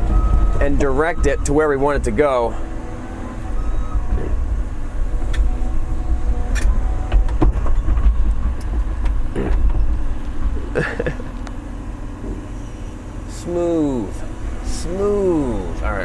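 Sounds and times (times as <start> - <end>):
excavator diesel engine rumbling: 0.0 - 16.0.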